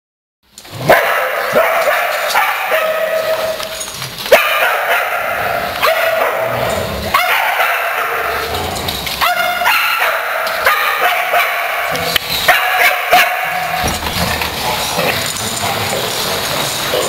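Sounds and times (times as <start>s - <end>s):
dogs barking and yipping: 0.6s - 17.0s.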